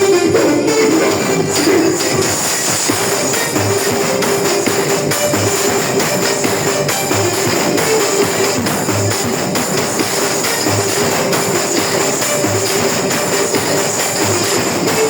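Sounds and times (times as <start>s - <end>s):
loud music: 0.0s - 15.0s.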